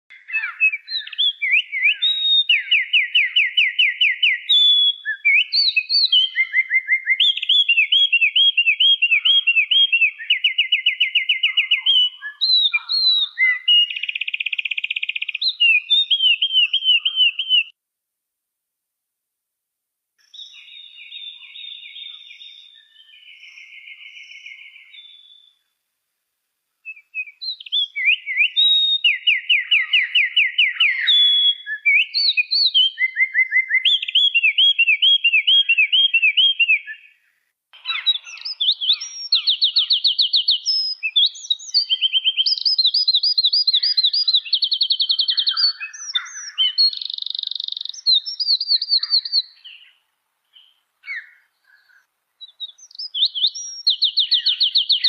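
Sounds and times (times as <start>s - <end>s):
songbird singing trills: 0.1s - 17.7s, 20.2s - 25.6s, 26.8s - 37.2s, 37.8s - 55.0s.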